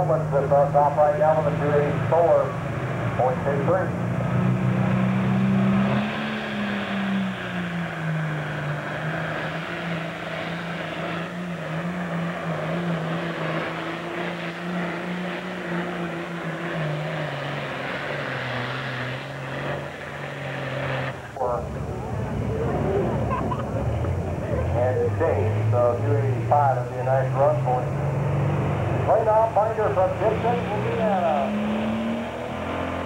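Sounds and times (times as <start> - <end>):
diesel engine under heavy load: 0.0 - 33.0.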